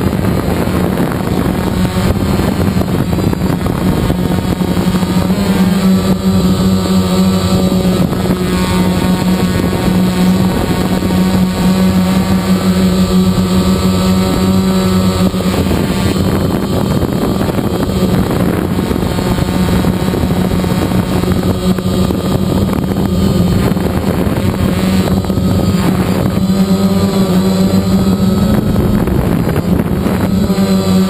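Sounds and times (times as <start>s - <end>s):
drone propellers buzzing: 0.0s - 31.0s
wind rushing over microphone: 0.0s - 31.0s.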